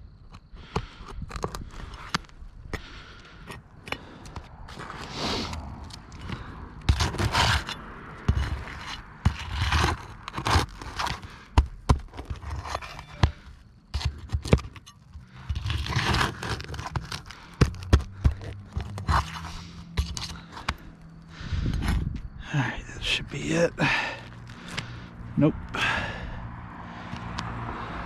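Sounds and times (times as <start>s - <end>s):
tools scraping roof shingles: 0.1s - 25.2s.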